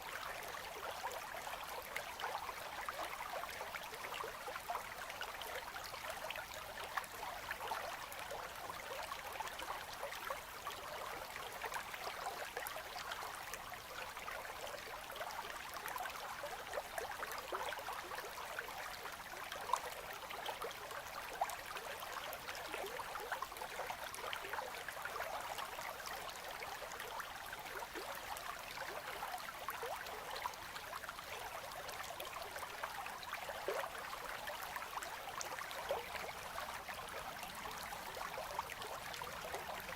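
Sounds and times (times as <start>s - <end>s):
river water gurgling: 0.0s - 39.9s
small splashes and trickles: 0.0s - 39.9s.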